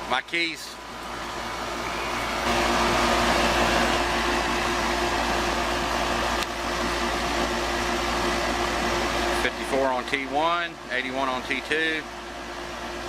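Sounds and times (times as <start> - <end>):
condenser fan air rush: 0.0 - 13.0
motor hum: 0.0 - 13.0.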